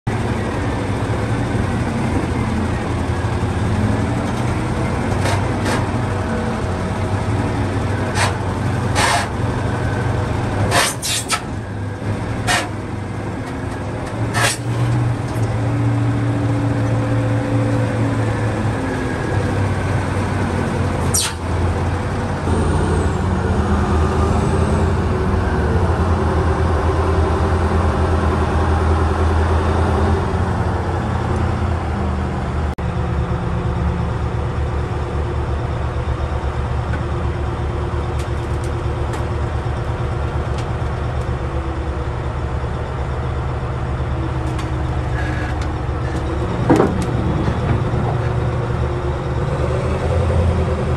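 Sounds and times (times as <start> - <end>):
diesel loader engine under load: 0.1 - 50.9.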